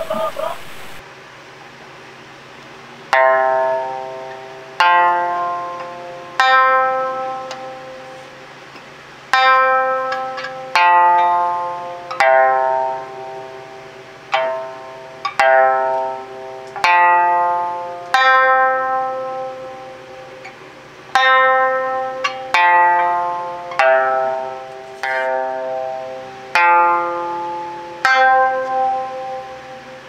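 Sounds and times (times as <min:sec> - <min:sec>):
plucked lute notes: 0:03.1 - 0:30.0.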